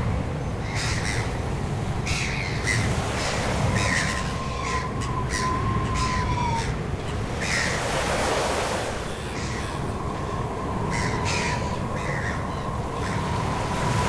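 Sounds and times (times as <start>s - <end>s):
birds giving harsh calls: 0.6s - 1.4s, 2.0s - 8.2s, 9.0s - 14.0s.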